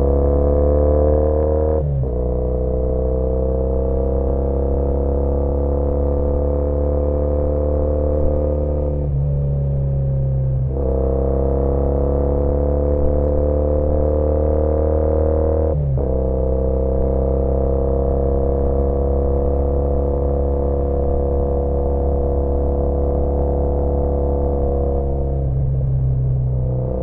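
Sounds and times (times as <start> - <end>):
motorcycle engine running: 4.8 - 27.0.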